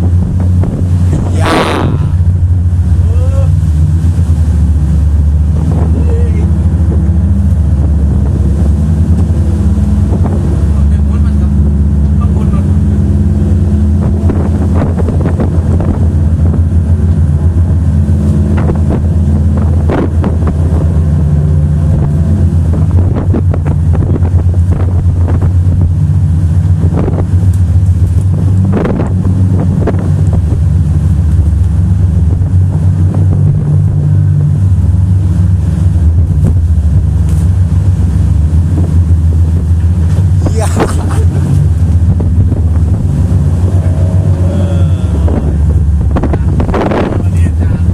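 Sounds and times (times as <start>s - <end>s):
motorboat engine running: 0.0s - 47.9s
wind buffeting microphone: 0.0s - 47.9s.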